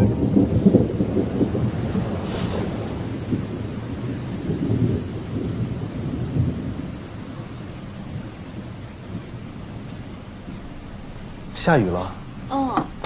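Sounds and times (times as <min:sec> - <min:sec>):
heavy rain falling: 0:00.0 - 0:13.0
low rolls of thunder: 0:00.0 - 0:13.0.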